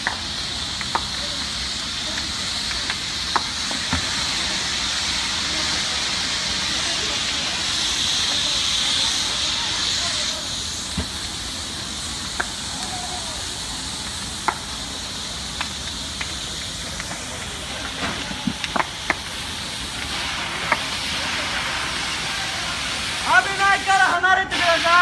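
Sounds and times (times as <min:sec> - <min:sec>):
fire cracks and pops: 0:00.0 - 0:24.0
fire hissing: 0:00.0 - 0:25.0.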